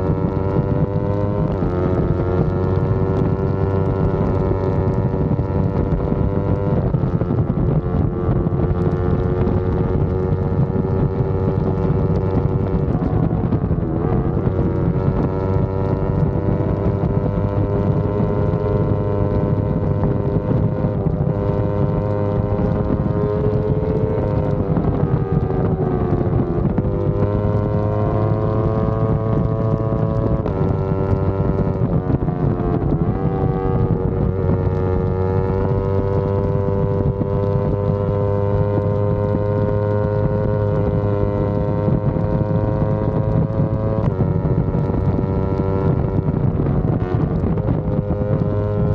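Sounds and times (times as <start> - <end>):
motorcycle engine running: 0.0 - 48.9
wind buffeting microphone: 0.0 - 48.9.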